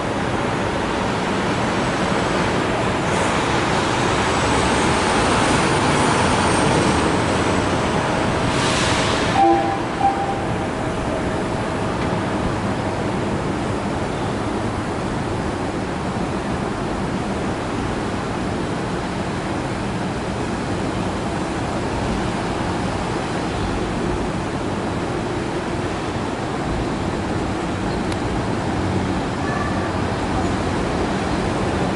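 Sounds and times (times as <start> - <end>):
train rushing past: 0.0 - 31.9.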